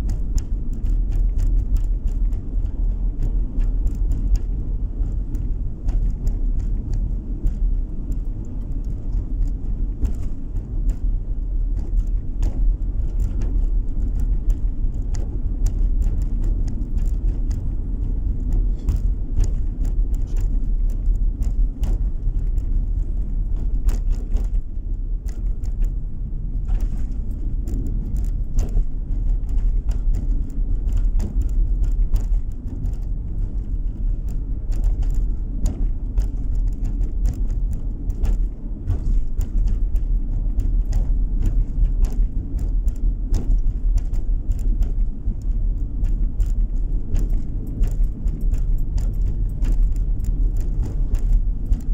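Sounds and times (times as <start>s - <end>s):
faint ticks: 0.0s - 51.9s
tyre and engine rumble: 0.0s - 51.9s.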